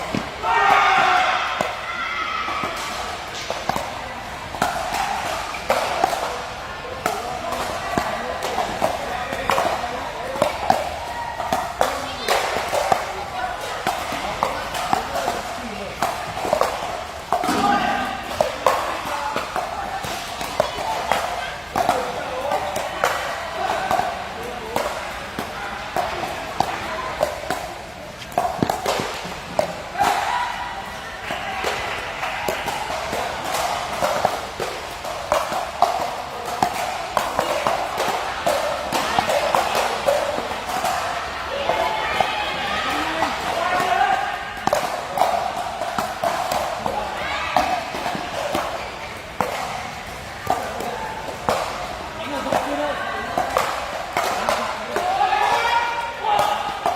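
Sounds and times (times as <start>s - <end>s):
ball hits and bounces: 0.0s - 1.8s, 2.5s - 56.9s.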